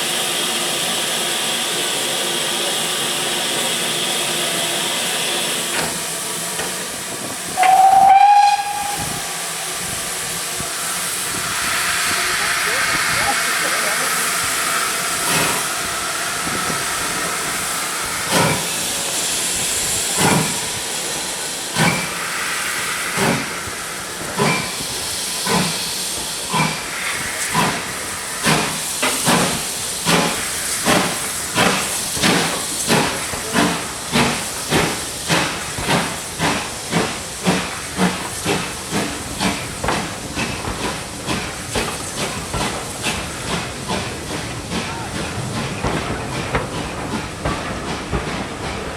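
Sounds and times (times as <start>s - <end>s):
steam hissing: 0.0s - 48.9s
steam locomotive exhaust beats: 0.0s - 48.9s.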